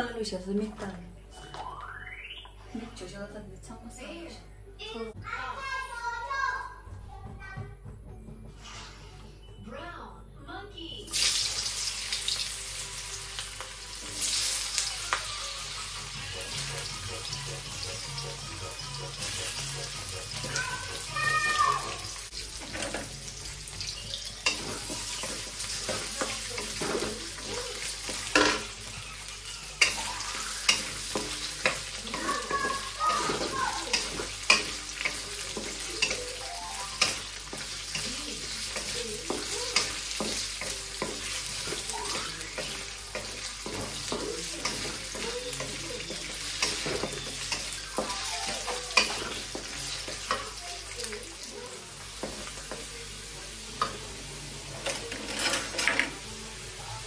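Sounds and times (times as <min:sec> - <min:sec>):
potatoes sizzling in hot oil: 0:11.1 - 0:57.0.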